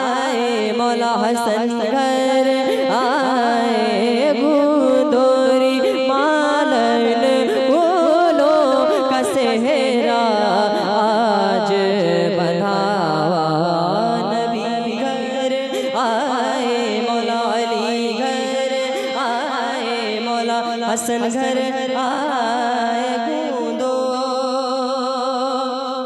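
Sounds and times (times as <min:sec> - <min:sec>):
man singing into a microphone: 0:00.0 - 0:26.0.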